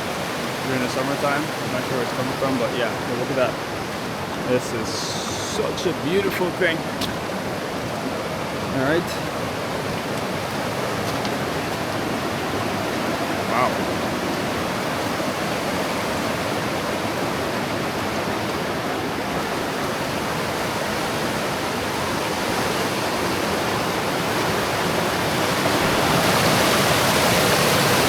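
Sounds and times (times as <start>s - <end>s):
waterfall rushing into a pool: 0.0s - 28.0s.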